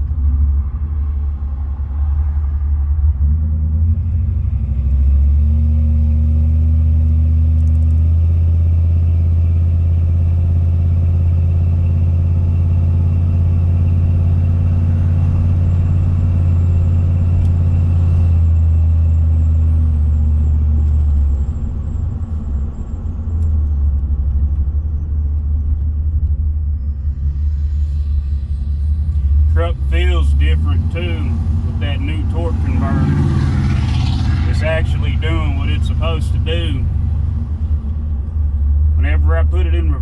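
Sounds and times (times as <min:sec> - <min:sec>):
truck engine and road drone: 0:00.0 - 0:40.0.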